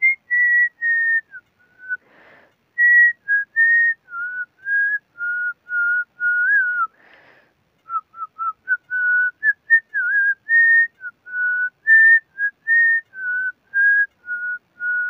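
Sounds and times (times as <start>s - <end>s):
man whistling a tune: 0.0s - 2.1s, 2.8s - 7.0s, 7.8s - 15.0s.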